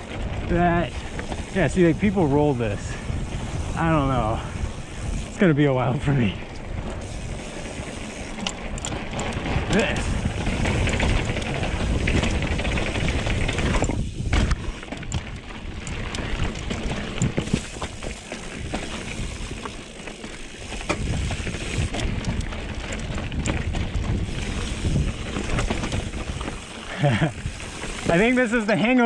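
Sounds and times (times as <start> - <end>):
wind rumble on microphone: 0.0 - 28.4
bike knocking and rattling: 0.0 - 29.0.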